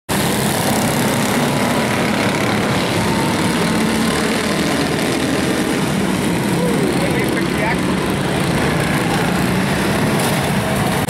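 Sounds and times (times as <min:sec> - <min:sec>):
race car engines droning: 0:00.1 - 0:11.0.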